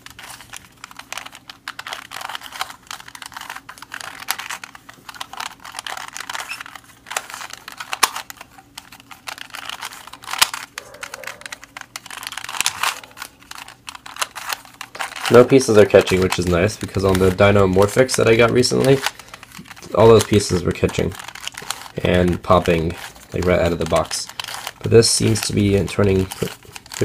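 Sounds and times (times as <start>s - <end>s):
plastic puzzle clicking: 0.0s - 27.0s.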